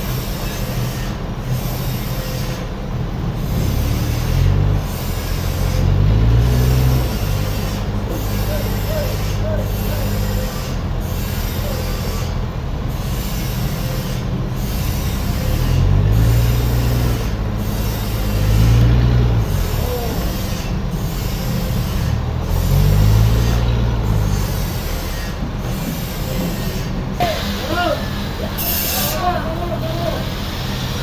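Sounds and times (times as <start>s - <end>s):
heavy machinery grinding: 0.0s - 31.0s.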